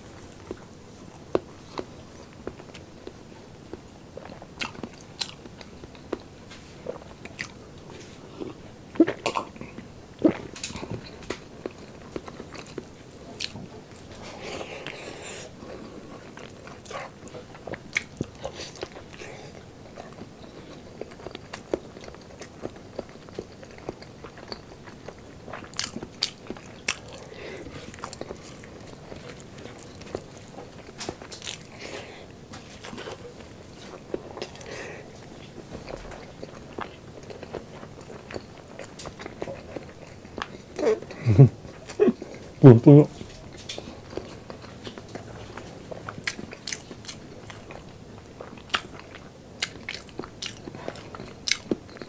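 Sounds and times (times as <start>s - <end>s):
wet mouth chewing sounds: 0.2s - 52.0s.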